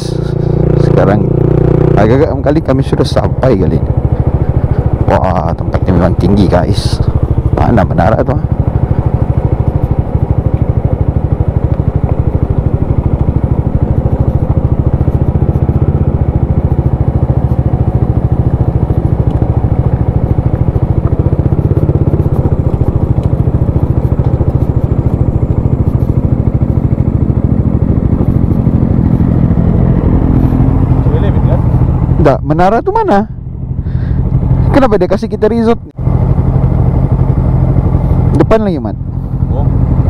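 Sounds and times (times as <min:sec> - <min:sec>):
scooter engine running: 0:00.0 - 0:40.0.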